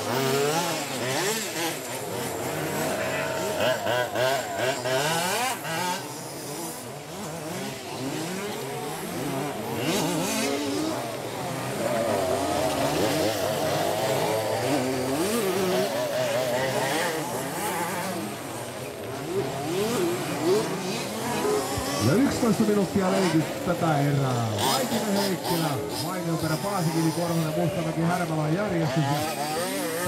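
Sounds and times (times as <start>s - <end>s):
small two-stroke engines revving: 0.0s - 30.0s.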